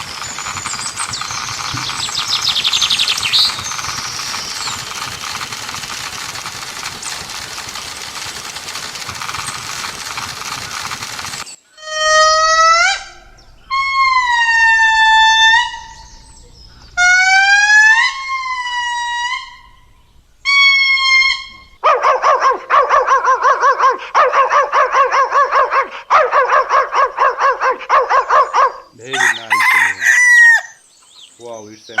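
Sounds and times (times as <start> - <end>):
rapid pulsing animal call: 0.0 - 30.8.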